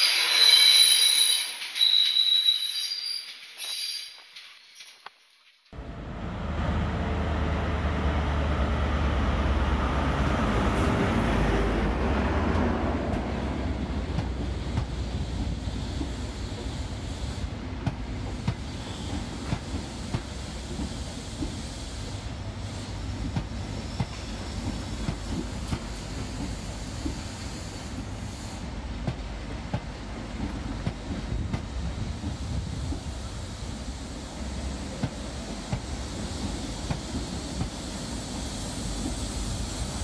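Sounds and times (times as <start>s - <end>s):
train hum and rumble: 5.8s - 40.0s.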